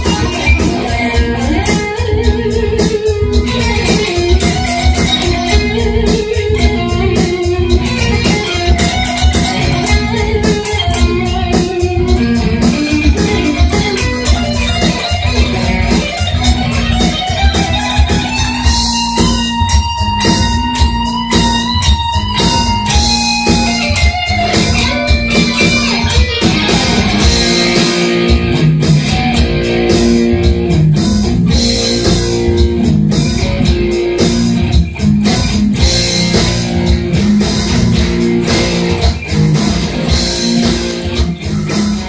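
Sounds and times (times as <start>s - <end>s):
bass guitar: 0.0s - 42.0s
drums: 0.0s - 42.0s
electric guitar lead: 0.0s - 42.0s.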